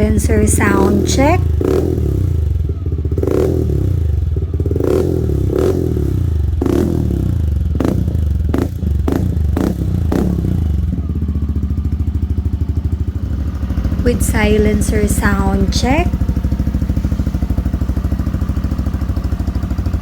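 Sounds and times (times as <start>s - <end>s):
motorcycle engine idling: 0.0s - 20.0s
motorcycle throttle blips: 0.0s - 20.0s.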